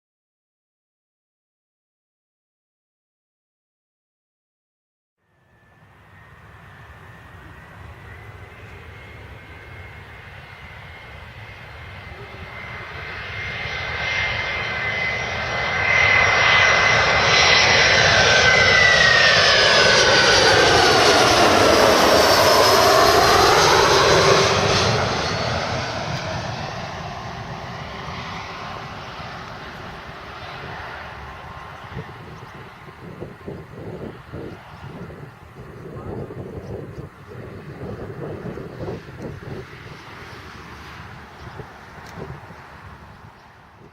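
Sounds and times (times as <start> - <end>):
jet plane flying past: 5.2 - 43.9.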